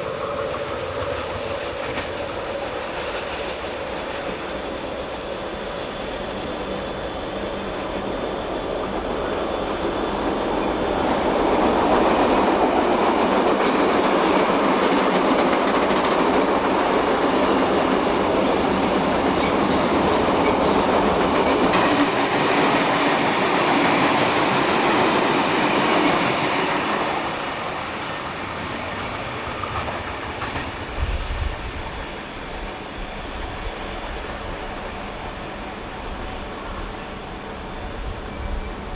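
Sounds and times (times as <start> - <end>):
train wheels on track: 0.0 - 38.9.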